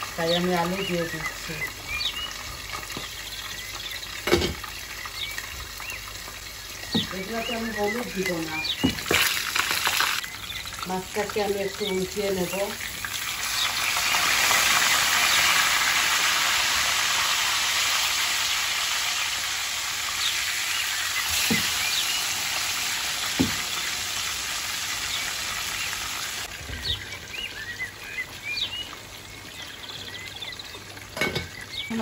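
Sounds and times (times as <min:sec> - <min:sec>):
fish sizzling in oil: 0:00.0 - 0:32.0.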